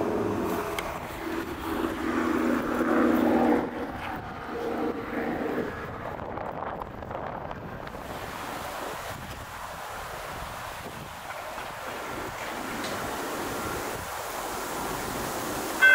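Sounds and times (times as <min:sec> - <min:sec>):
vehicle engine hum in traffic: 0:00.0 - 0:15.9.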